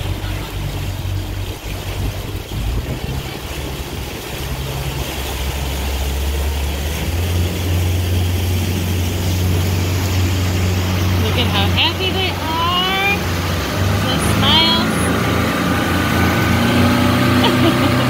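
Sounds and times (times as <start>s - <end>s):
motorboat engine running: 0.0s - 18.0s
water rushing: 0.0s - 18.0s
wind: 0.0s - 18.0s.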